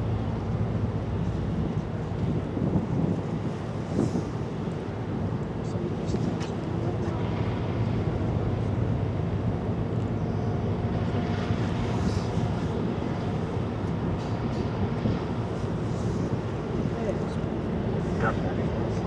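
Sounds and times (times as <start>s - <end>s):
ship engines rumbling: 0.0s - 19.0s.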